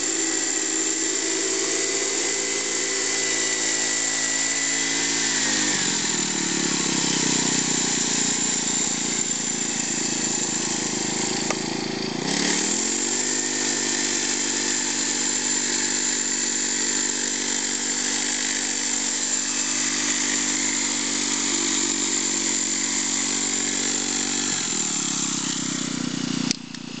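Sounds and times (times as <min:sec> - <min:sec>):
small petrol engine running: 0:00.0 - 0:27.0.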